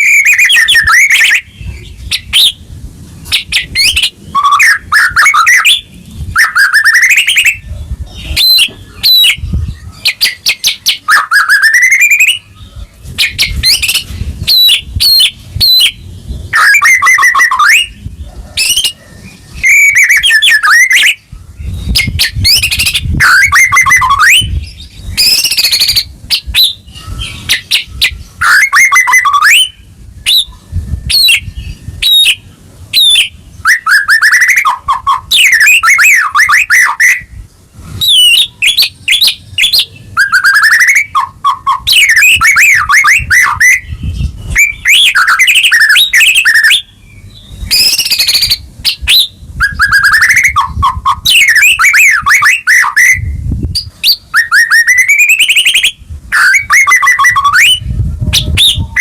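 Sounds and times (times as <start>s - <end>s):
bird singing whistles and rattles: 0.0s - 2.6s, 3.2s - 59.0s.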